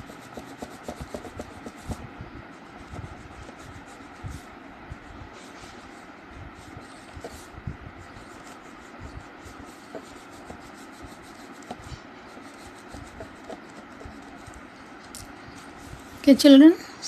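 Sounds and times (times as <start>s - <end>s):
colouring strokes on paper: 0.0s - 16.7s.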